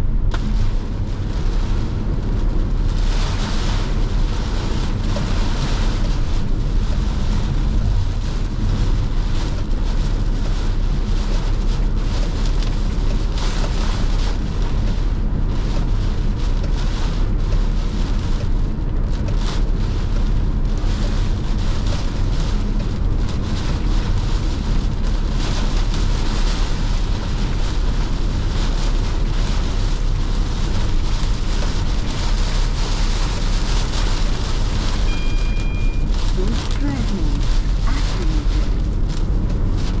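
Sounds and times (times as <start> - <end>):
rain and water spray on car: 0.0 - 40.0
tyres rumbling on wet road: 0.0 - 40.0.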